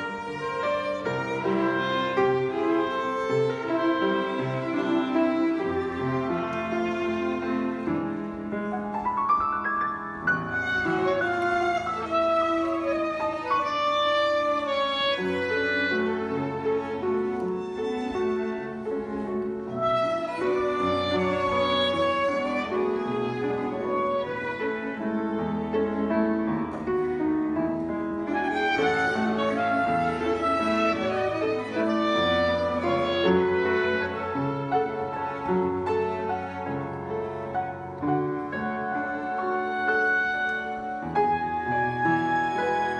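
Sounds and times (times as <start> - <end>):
cello: 0.0 - 42.9
clarinet: 0.0 - 42.9
piano: 0.0 - 42.9
violin melody: 0.0 - 42.9.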